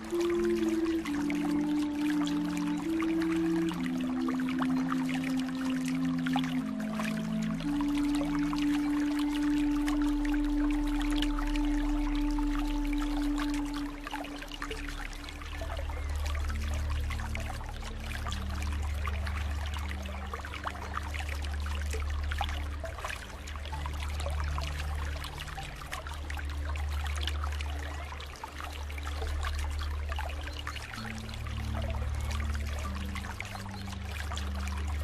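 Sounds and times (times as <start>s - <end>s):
low sustained tones: 0.0s - 35.0s
water trickling and splashing: 0.0s - 35.0s.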